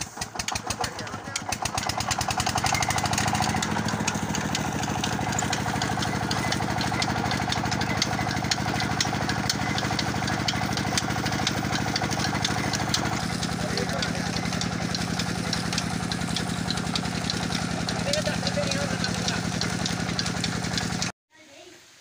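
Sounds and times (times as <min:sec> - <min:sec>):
cane crushing in rollers: 0:00.0 - 0:21.1
stationary engine running: 0:00.0 - 0:21.1.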